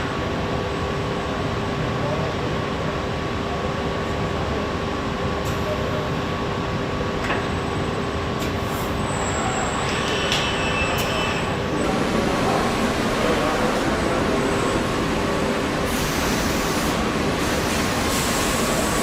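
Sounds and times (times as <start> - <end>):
factory machinery hum and hiss: 0.0 - 19.0.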